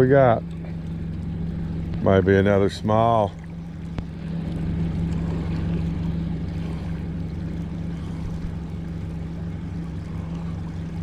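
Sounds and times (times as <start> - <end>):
boat wake washing: 0.0 - 11.0
outboard motor humming: 0.0 - 11.0.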